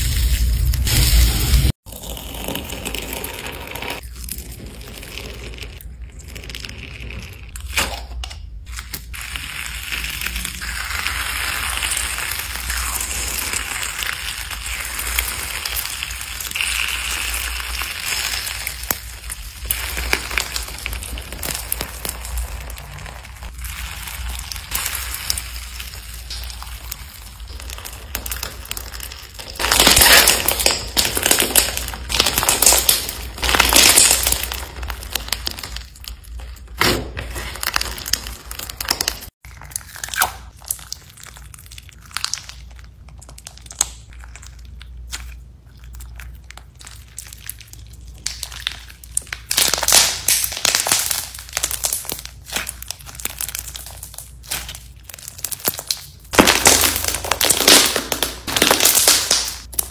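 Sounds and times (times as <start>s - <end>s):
slime crackling and popping: 0.0s - 59.9s
crunchy beads in slime: 8.6s - 59.9s.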